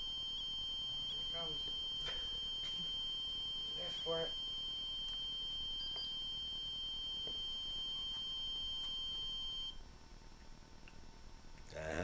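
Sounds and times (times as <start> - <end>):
high electronic alarm tone: 0.0 - 9.8.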